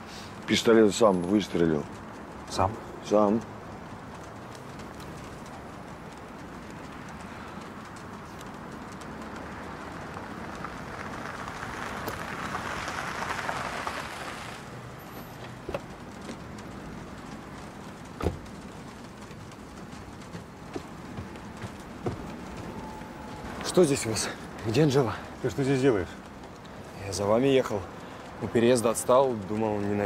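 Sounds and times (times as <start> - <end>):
car driving over rough ground: 0.4 - 30.0.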